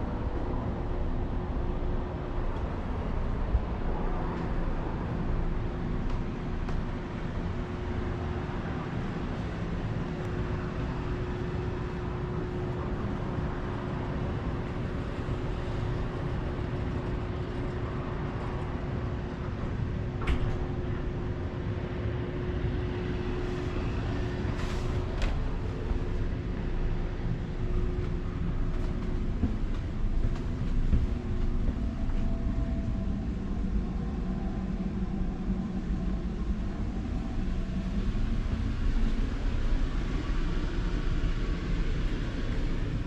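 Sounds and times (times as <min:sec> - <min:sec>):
low hum: 0:00.0 - 0:43.0
mechanical rumble: 0:00.0 - 0:43.0.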